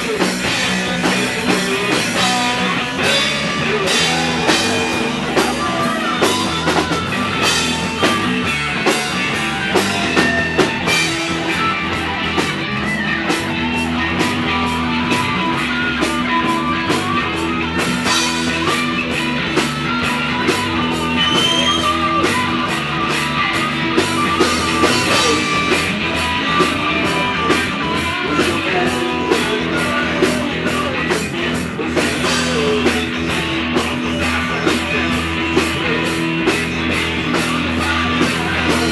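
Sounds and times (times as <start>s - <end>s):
bass guitar: 0.0s - 38.9s
distorted electric guitar: 0.0s - 38.9s
drum kit with cymbal hits: 0.0s - 38.9s.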